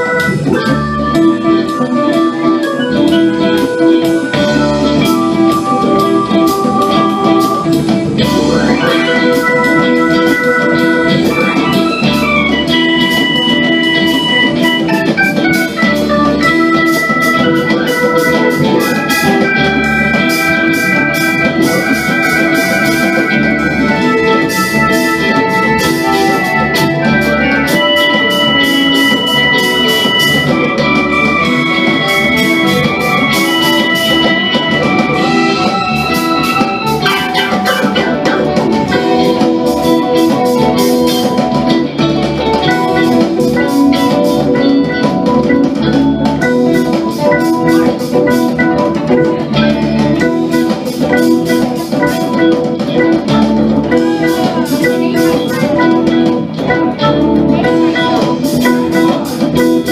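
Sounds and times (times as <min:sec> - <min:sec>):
bass: 0:00.0 - 0:59.9
drums and cymbals: 0:00.0 - 0:59.9
electric guitar sliding lines: 0:00.0 - 0:59.9
organ-like keyboard notes: 0:00.0 - 0:59.9.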